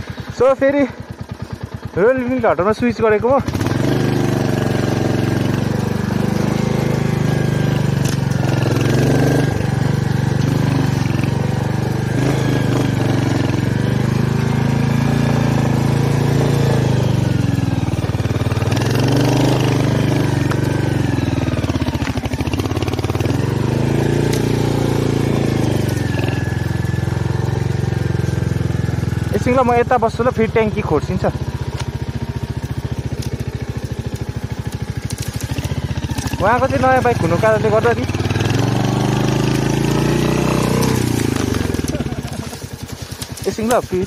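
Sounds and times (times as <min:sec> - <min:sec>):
motorcycle engine at low revs: 0:00.0 - 0:44.0.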